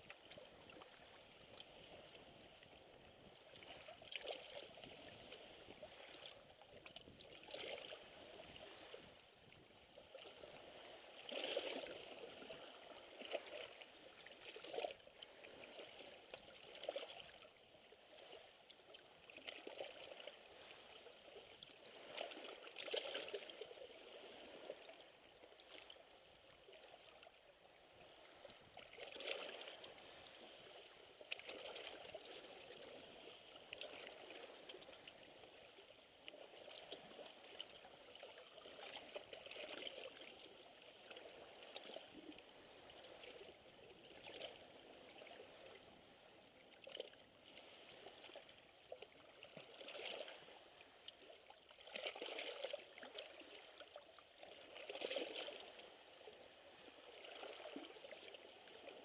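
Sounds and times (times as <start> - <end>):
waves lapping against rocks: 0.0 - 59.0.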